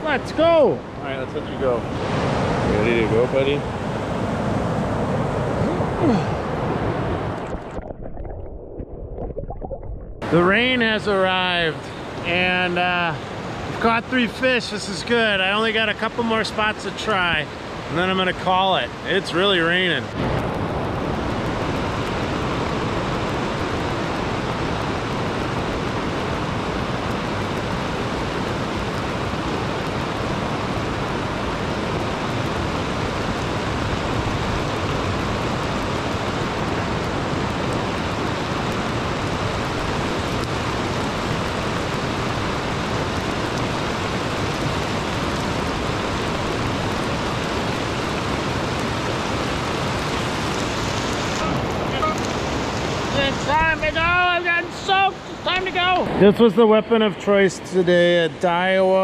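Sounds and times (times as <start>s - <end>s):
heavy rain pouring: 0.0s - 8.3s, 10.2s - 56.6s.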